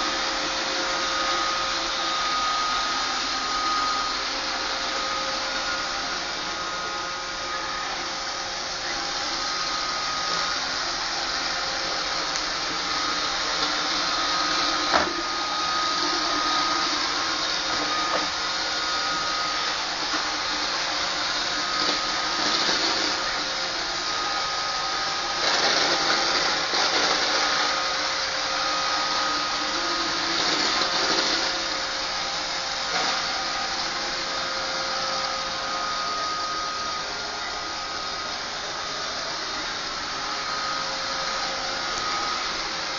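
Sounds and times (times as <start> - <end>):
robot vacuum whirring: 0.0 - 42.9.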